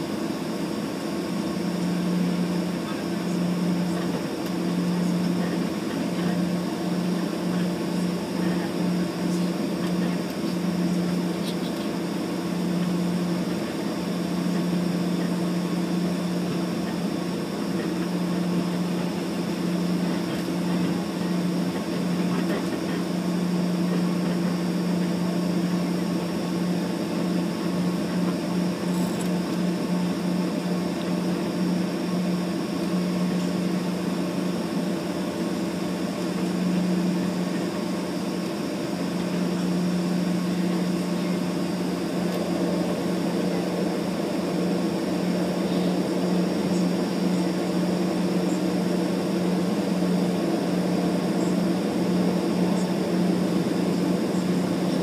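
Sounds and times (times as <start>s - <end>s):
airliner engines droning: 0.0s - 55.0s.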